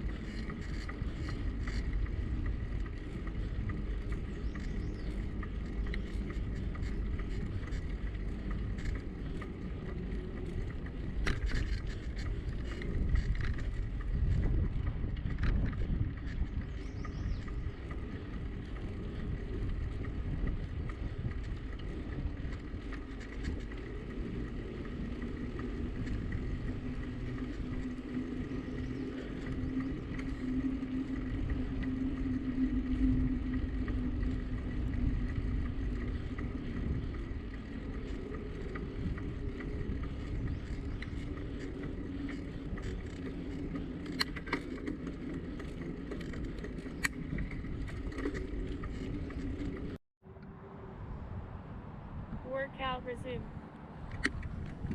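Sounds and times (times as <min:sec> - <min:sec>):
bicycle tyre rumble: 0:00.0 - 0:54.9
steady low hum: 0:00.0 - 0:54.9
wind buffeting microphone: 0:00.0 - 0:54.9.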